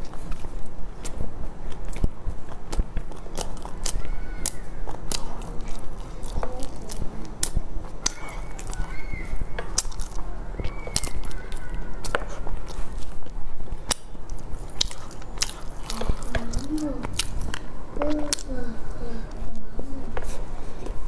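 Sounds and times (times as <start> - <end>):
chewing bread: 0.0 - 20.9.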